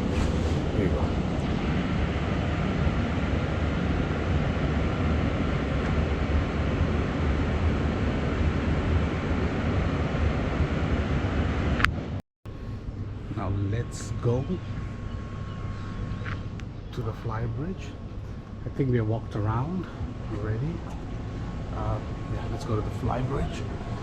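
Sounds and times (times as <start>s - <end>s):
low rumble with hiss: 0.0s - 24.0s.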